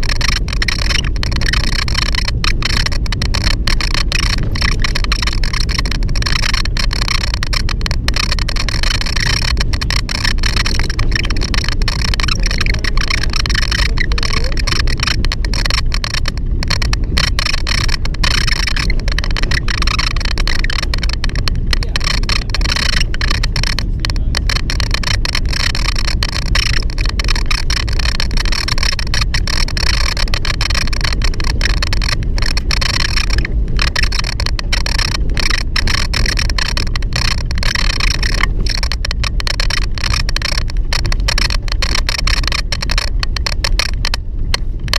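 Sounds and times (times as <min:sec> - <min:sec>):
car door squeaking and rattling: 0:00.0 - 0:44.9
low rumble of driving: 0:00.0 - 0:44.9.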